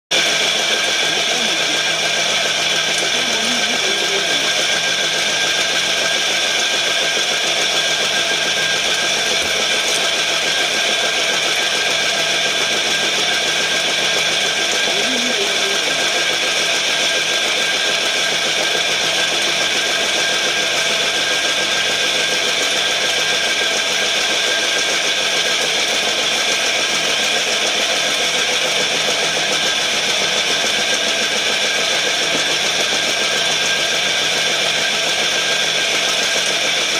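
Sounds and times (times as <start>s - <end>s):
machine drone with high tones: 0.1s - 36.9s.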